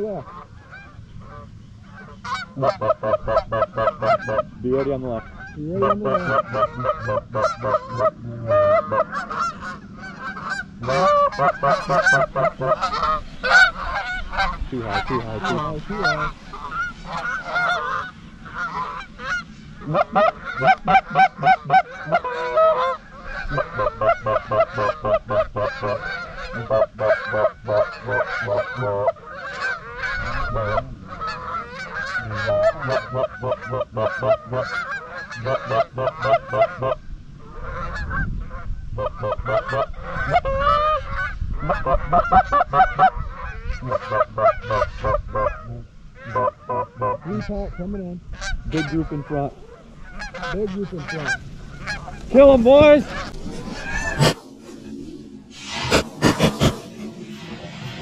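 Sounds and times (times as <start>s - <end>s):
geese honking and clucking: 0.0s - 58.0s.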